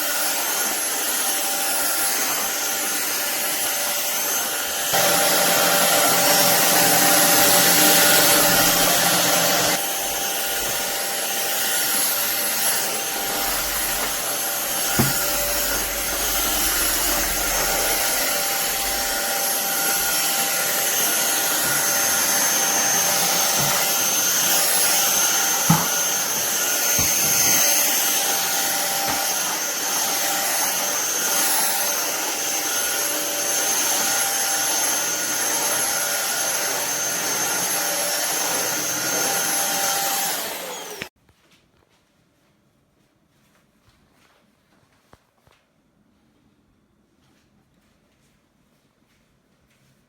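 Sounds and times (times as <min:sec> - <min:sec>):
vacuum cleaner running: 0:00.0 - 0:41.2.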